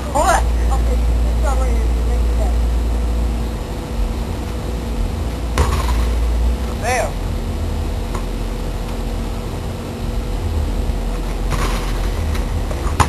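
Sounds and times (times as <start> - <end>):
low rumble with hum: 0.0 - 13.0.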